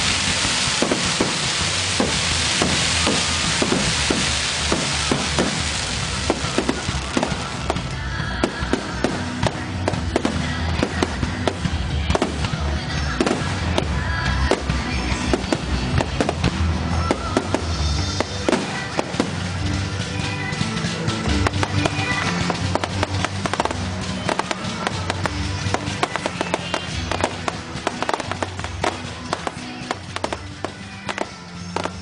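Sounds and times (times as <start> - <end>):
fireworks bangs and crackles: 0.0 - 32.0
music: 0.0 - 32.0.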